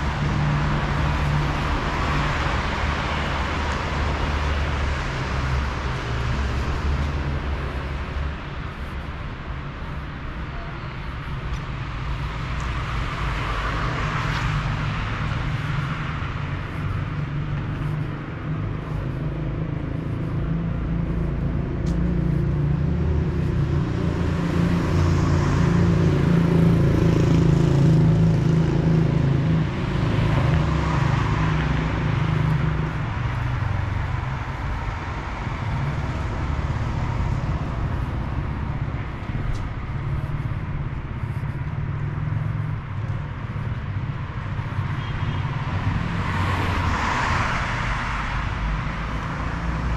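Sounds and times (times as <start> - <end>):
cars passing: 0.0 - 49.9.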